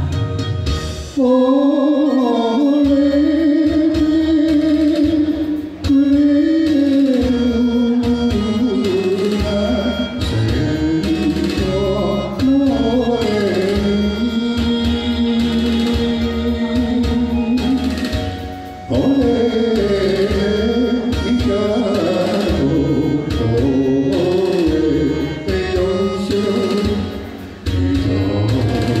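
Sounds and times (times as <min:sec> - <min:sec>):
backing band with steady beat: 0:00.0 - 0:29.0
slow ballad singing with wavering notes: 0:00.0 - 0:29.0.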